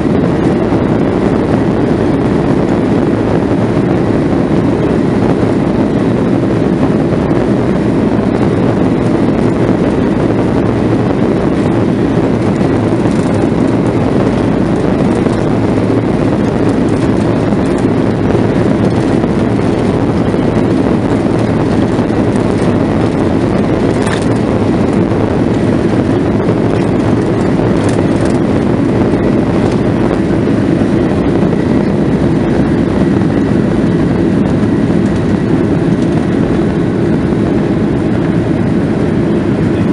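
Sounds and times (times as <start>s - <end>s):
jet engines and wheels rumbling: 0.0s - 39.9s.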